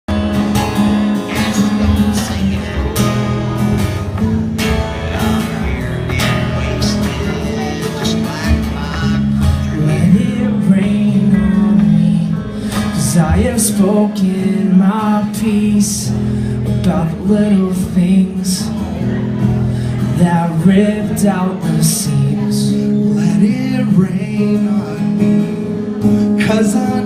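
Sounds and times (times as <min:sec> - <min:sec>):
live rock band playing: 0:00.1 - 0:27.0
strummed guitar: 0:00.1 - 0:27.0.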